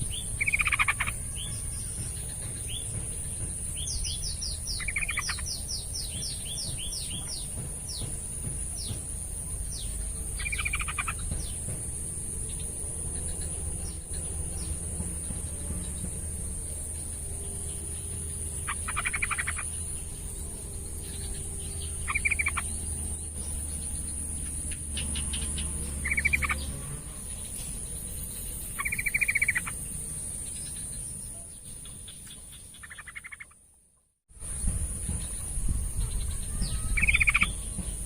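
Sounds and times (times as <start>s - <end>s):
bird chattering calls: 0.0s - 11.8s, 17.0s - 27.6s, 28.2s - 30.0s, 30.6s - 33.6s, 34.6s - 38.0s.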